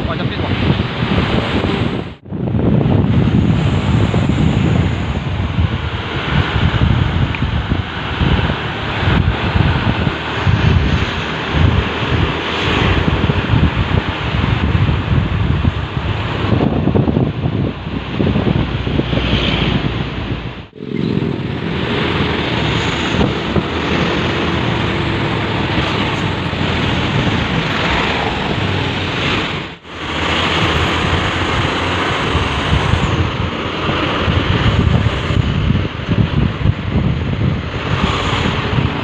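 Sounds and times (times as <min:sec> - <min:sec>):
road noise: 0:00.0 - 0:39.0
truck engines rumbling: 0:00.0 - 0:39.0
wind buffeting microphone: 0:00.0 - 0:39.0.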